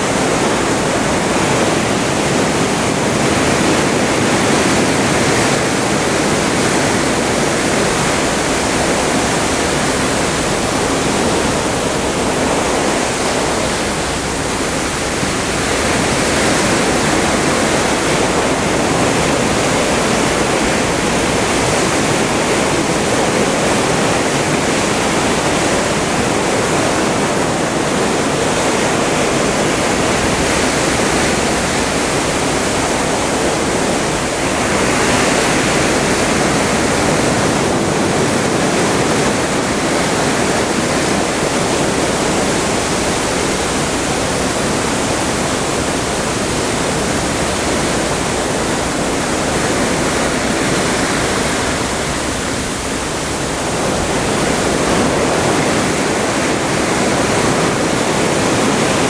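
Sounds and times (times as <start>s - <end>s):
seawater rushing past ship hull: 0.0s - 59.0s.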